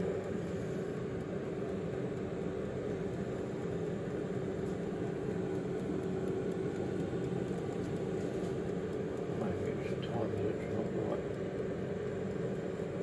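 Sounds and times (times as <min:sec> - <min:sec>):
air fryer fan whirring: 0:00.0 - 0:13.0.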